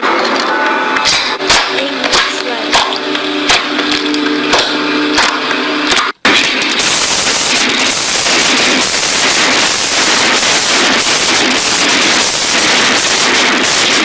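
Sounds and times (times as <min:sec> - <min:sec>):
slime crackling and popping: 0:01.5 - 0:14.0.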